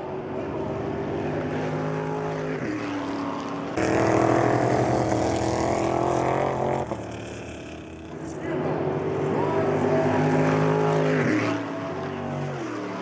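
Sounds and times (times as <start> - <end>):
race car engines at speed: 0.0 - 13.0
single race car engine: 0.0 - 13.0.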